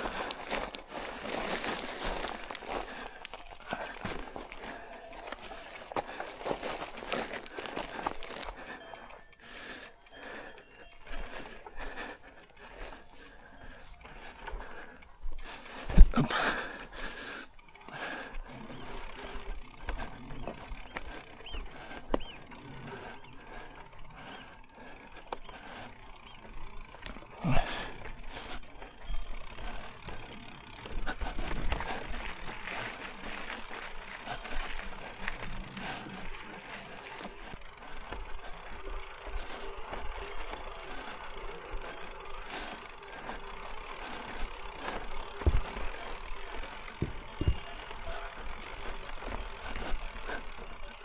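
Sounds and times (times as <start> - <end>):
bike clattering over rough trail: 0.0 - 51.0.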